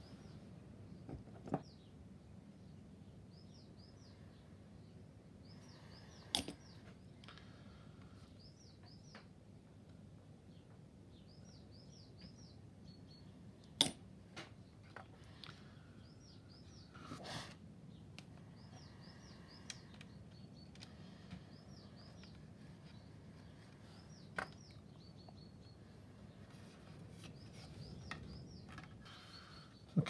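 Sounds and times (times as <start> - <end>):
faint bird chirping: 0.0 - 30.0.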